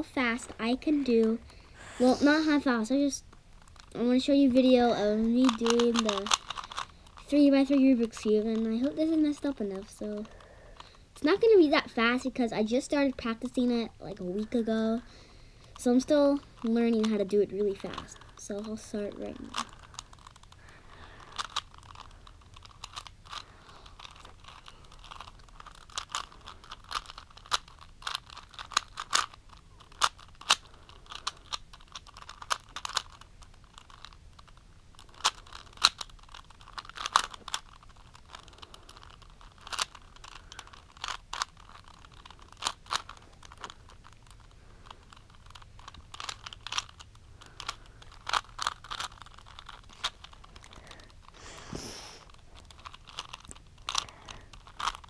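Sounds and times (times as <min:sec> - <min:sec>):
puzzle cube plastic clicks: 0:00.0 - 0:55.0.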